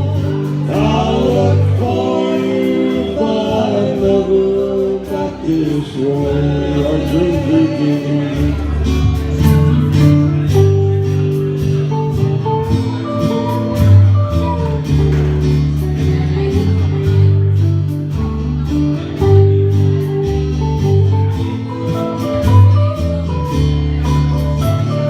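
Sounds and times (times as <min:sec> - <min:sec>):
acoustic guitar strumming: 0:00.0 - 0:25.0
bass line: 0:00.0 - 0:25.0.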